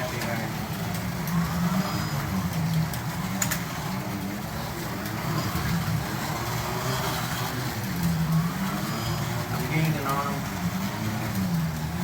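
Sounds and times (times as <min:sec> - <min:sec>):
slot car motors humming: 0:00.0 - 0:12.0.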